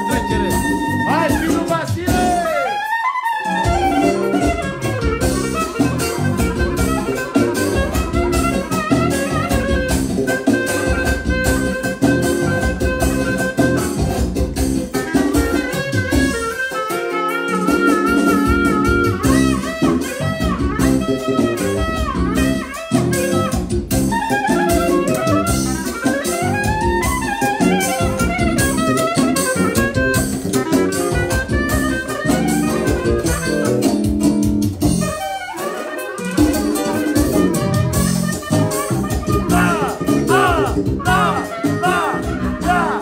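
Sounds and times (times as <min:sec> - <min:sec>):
steady drum beat: 0:00.0 - 0:02.7, 0:03.7 - 0:16.8, 0:17.6 - 0:35.2, 0:36.4 - 0:43.0
fast clarinet melody: 0:00.0 - 0:43.0.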